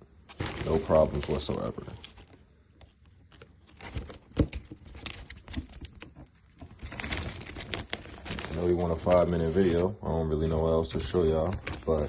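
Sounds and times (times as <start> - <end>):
packaging crinkling: 0.3 - 9.9, 10.8 - 12.0
packaging rustling: 0.3 - 12.0.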